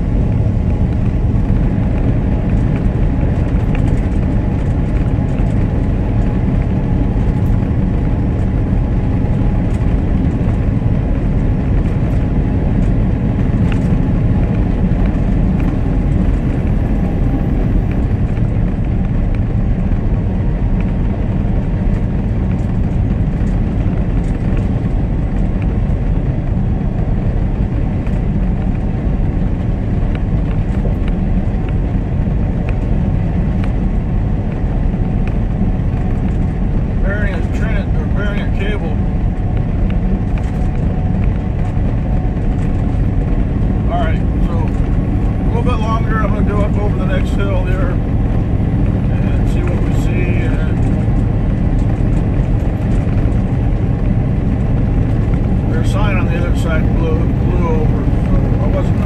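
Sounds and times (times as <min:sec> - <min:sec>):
truck engine drone: 0:00.0 - 0:59.0
tyre and road rumble: 0:00.0 - 0:59.0.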